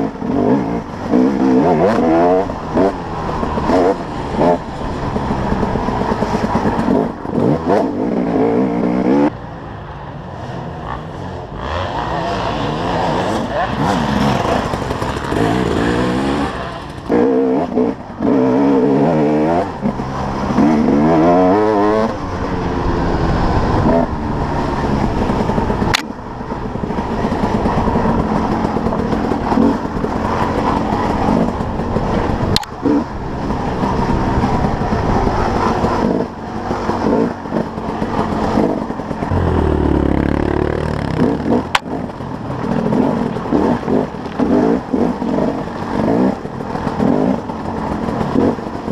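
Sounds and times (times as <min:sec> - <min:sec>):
dirt bike engine revving: 0:00.0 - 0:09.3, 0:10.8 - 0:48.9.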